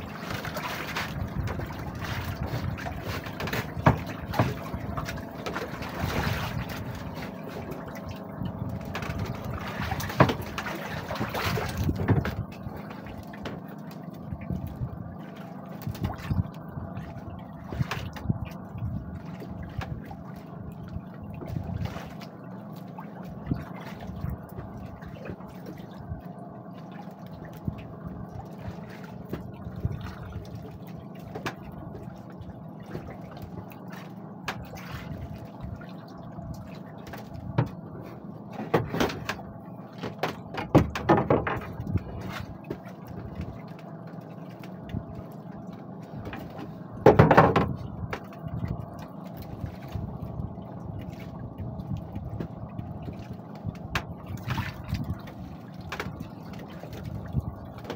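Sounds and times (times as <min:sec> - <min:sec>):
water lapping against boat hull: 0:00.0 - 0:57.9.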